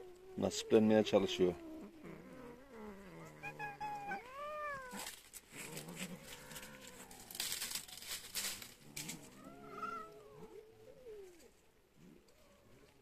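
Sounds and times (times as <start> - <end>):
cats meowing: 0.0 - 8.2, 8.9 - 11.6.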